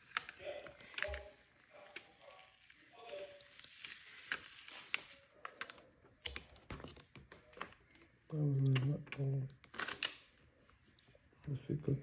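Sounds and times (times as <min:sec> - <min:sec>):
plastic film crackling: 0:00.0 - 0:08.0, 0:08.6 - 0:10.4.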